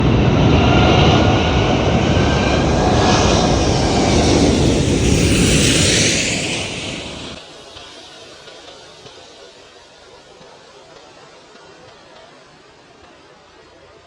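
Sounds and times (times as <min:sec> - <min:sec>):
jet engine rush with whine: 0:00.0 - 0:12.7.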